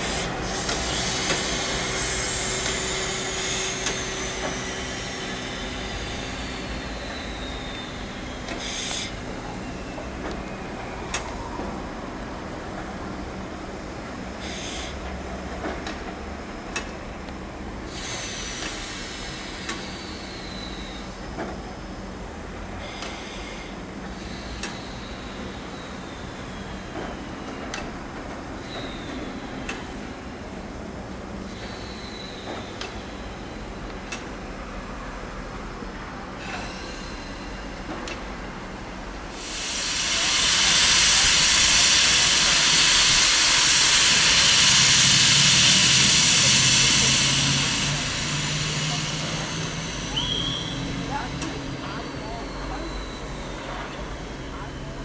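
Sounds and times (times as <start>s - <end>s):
steam locomotive rumble and hiss: 0.0s - 55.0s.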